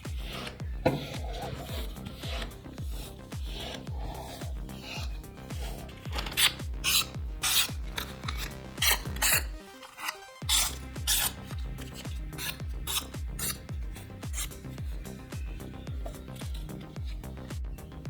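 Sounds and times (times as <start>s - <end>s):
scratchy rubbing by hand: 0.0s - 17.6s
music with deep bass beat: 0.0s - 18.0s.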